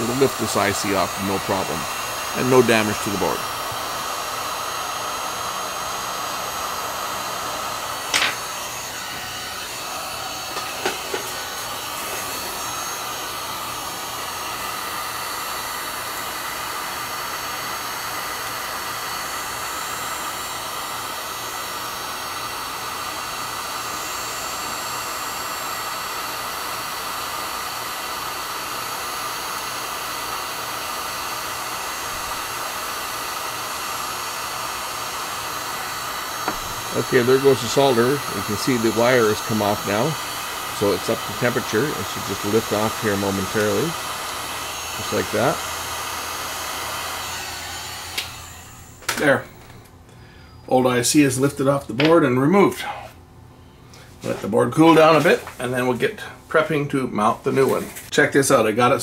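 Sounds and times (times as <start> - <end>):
heat gun blowing air: 0.0 - 49.9, 54.0 - 55.9.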